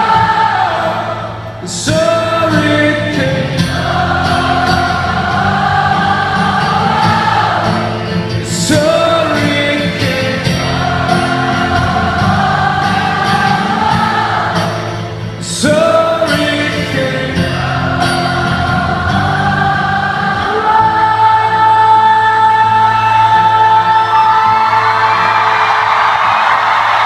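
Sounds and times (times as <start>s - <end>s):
live rock band with choir-like singing: 0.0s - 27.0s.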